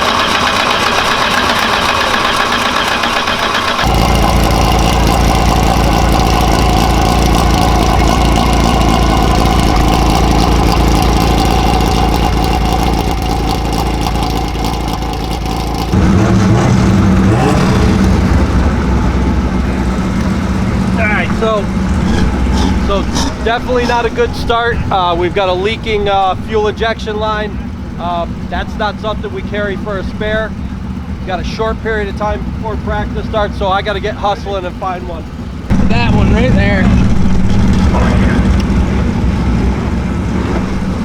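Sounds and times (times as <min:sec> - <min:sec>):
race car engine idling: 0:00.0 - 0:41.0.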